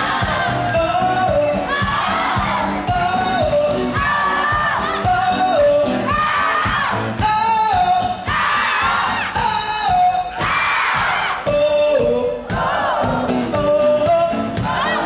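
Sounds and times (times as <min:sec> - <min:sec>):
upbeat pop music with singing: 0:00.0 - 0:15.0.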